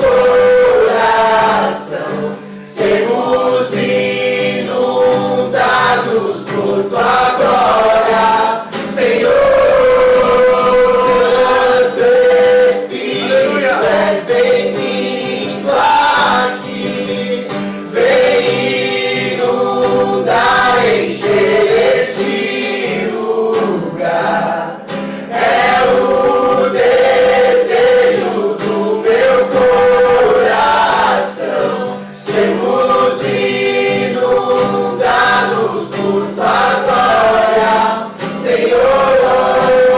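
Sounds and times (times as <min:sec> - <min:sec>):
group singing worship song: 0:00.0 - 0:39.9
strummed acoustic guitar: 0:00.0 - 0:39.9.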